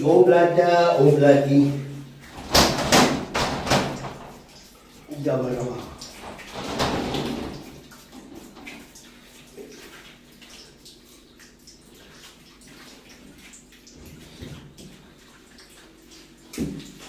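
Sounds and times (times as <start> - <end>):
water dripping: 0.0 - 17.0
water splashing: 0.0 - 17.0.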